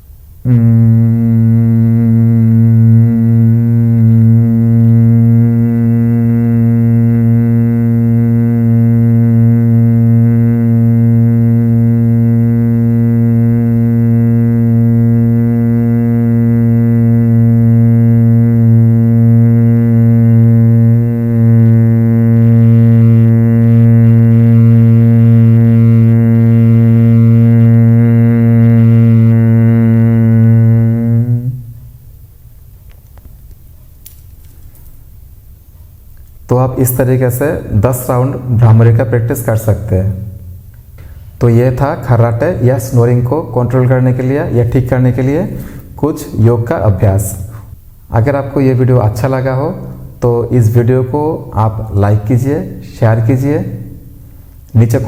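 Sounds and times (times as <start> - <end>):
man humming a low note: 0.0 - 32.2, 36.5 - 55.0.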